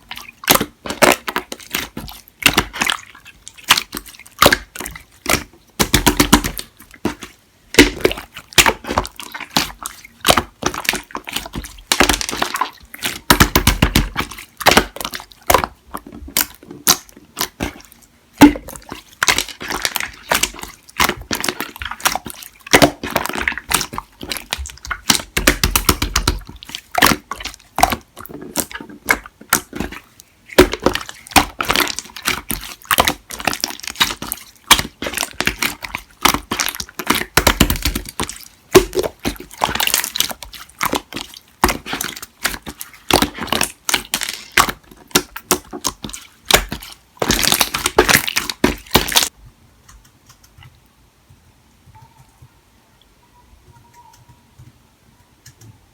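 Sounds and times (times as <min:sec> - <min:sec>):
slime crackling and squelching: 0:00.0 - 0:49.4.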